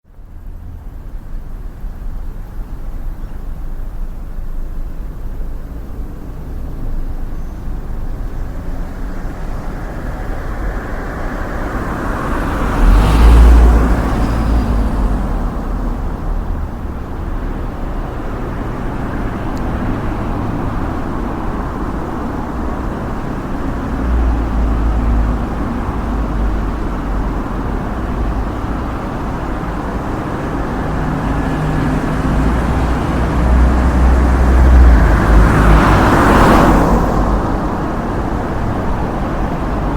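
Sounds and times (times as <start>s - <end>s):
road vehicles rumbling: 0.0s - 39.9s
vehicle passing close: 4.8s - 39.9s.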